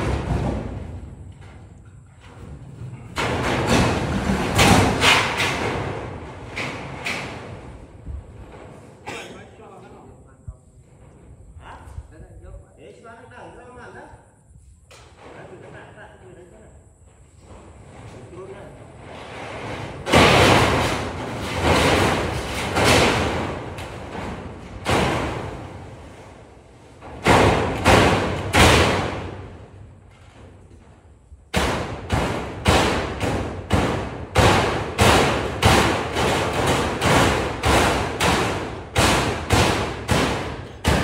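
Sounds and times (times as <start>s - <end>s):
metal roofing sheets booming: 0.0s - 12.5s, 14.9s - 41.0s.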